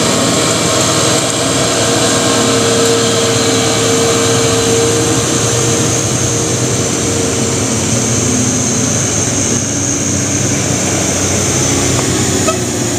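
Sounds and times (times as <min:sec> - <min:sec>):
high-pitched whine: 0:00.0 - 0:12.9
truck diesel engine labouring: 0:00.0 - 0:12.9.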